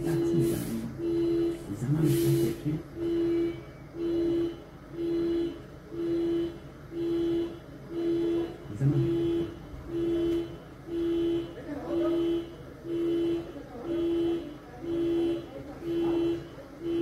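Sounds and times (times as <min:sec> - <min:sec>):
car alarm horn blasts: 0:00.0 - 0:17.0.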